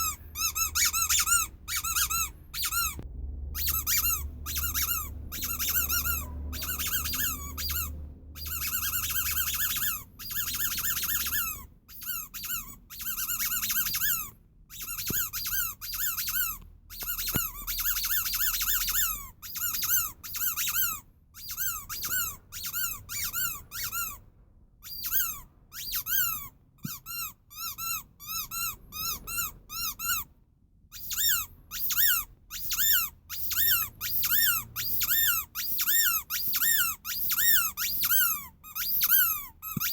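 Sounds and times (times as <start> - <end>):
squeaky toy squeaking: 0.0 - 3.0, 3.6 - 39.9.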